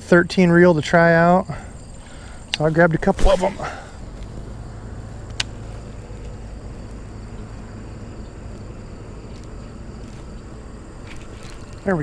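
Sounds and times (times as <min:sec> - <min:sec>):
distant traffic hum: 0:00.0 - 0:12.0
faint insect drone: 0:00.0 - 0:12.0.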